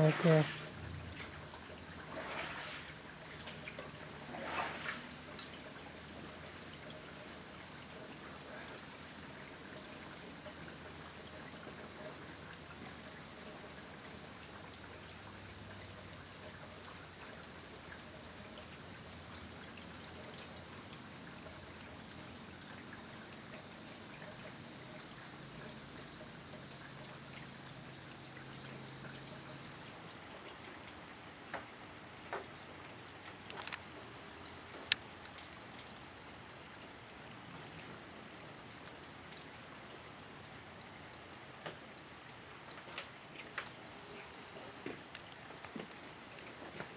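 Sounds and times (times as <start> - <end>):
light rain falling: 0.0 - 46.9.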